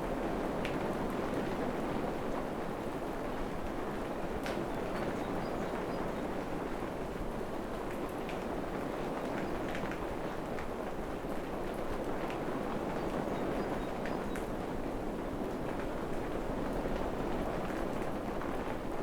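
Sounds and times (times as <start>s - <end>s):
steady rain in forest: 0.0s - 19.0s.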